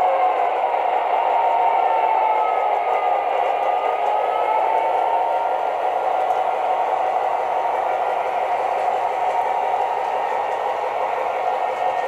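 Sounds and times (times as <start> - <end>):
model train diesel engine sound: 0.0 - 12.0
model train wheel and motor noise: 0.0 - 12.0.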